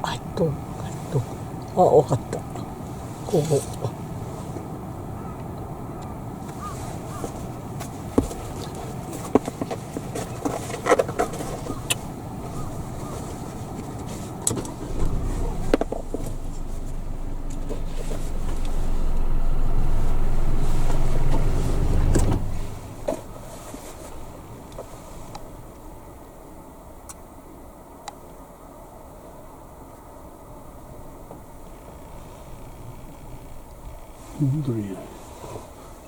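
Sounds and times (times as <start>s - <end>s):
motor vehicle rumble: 0.0s - 36.0s.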